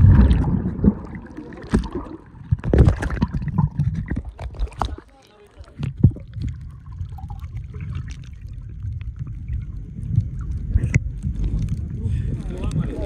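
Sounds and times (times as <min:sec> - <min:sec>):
splash and rush of bubbles: 0:00.0 - 0:13.0
underwater low rumble: 0:00.0 - 0:13.0.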